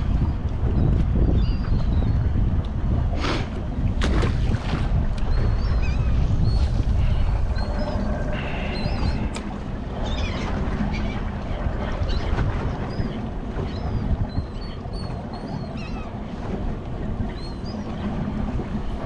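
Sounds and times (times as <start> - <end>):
seabirds calling: 0.0 - 2.5, 5.0 - 19.0
choppy water washing: 0.0 - 19.0
wind: 0.0 - 19.0.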